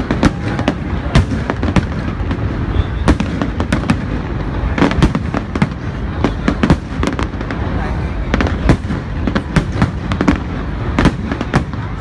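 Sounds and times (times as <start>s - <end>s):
distant firework bangs: 0.0s - 12.0s.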